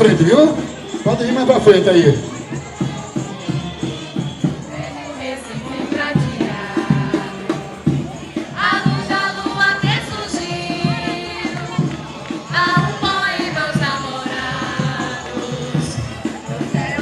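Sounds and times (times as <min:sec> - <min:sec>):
light percussion: 0:00.0 - 0:17.0
choir singing: 0:01.4 - 0:17.0.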